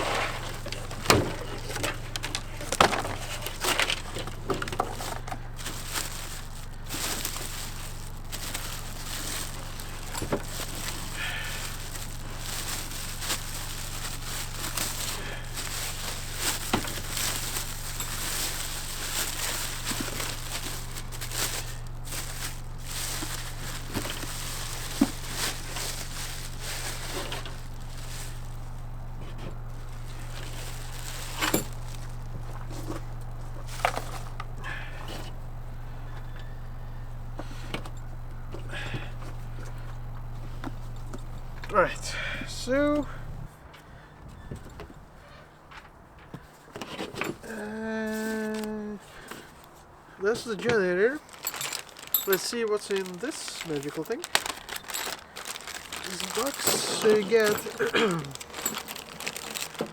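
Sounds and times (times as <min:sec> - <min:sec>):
cardboard box rustling and crumpling: 0:00.0 - 0:43.5, 0:46.4 - 0:59.9.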